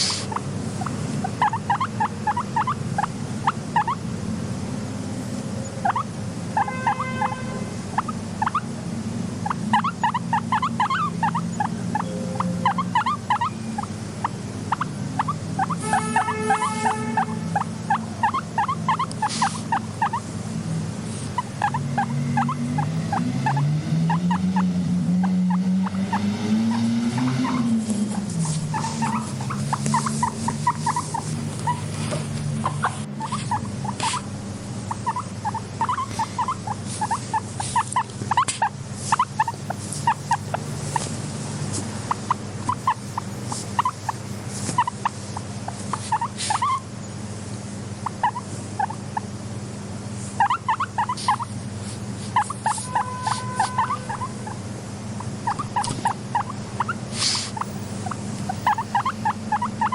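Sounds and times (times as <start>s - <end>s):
guinea pigs squeaking: 0.0s - 4.1s, 5.1s - 47.4s, 48.0s - 49.4s, 50.2s - 59.9s
steady low hum: 0.0s - 59.9s.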